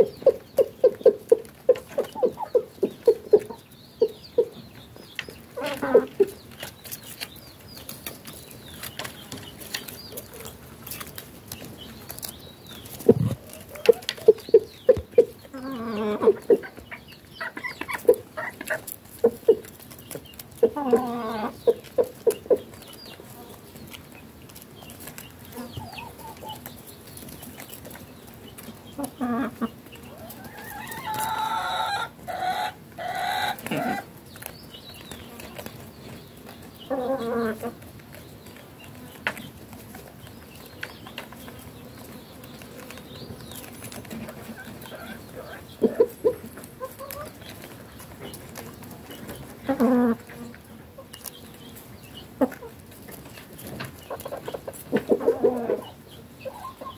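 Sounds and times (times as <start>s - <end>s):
beaks pecking on ground: 0.0s - 56.9s
chicken calls: 0.0s - 56.9s
chickens clucking: 0.0s - 56.9s.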